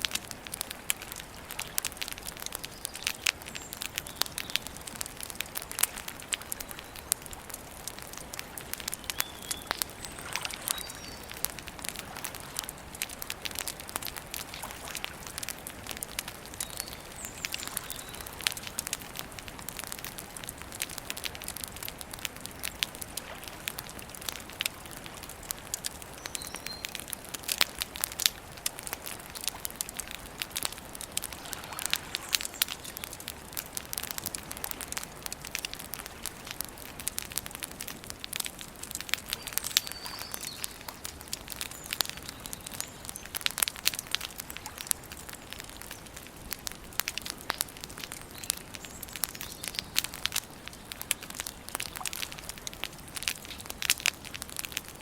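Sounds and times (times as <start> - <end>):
campfire crackling and popping: 0.0 - 55.0
soft fire hiss: 0.0 - 55.0.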